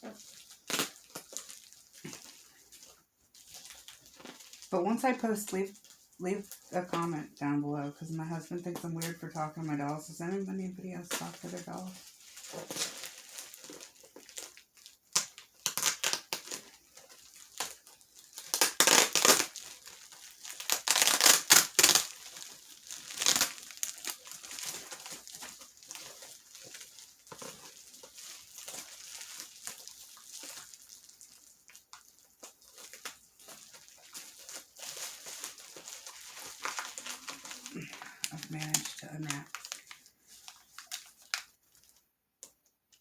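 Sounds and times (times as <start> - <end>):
packaging crinkling and rustling: 0.0 - 7.6, 10.9 - 43.0.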